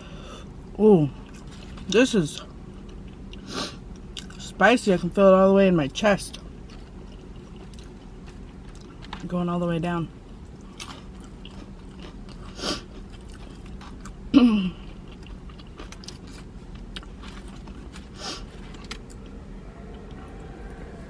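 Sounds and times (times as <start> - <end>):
chewing and crunching food: 0.5 - 4.6, 6.4 - 9.4, 10.2 - 21.0.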